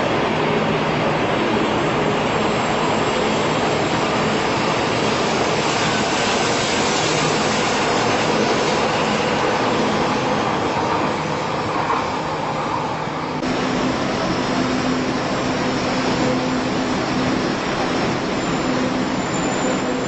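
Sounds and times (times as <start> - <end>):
train rushing at speed: 0.0 - 20.0.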